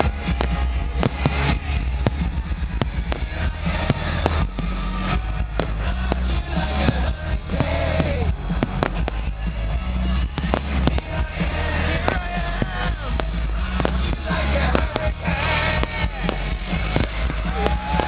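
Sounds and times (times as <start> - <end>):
crowd din: 0.0 - 18.0
fireworks bangs and cracks: 0.0 - 18.0
music playing: 0.0 - 18.0.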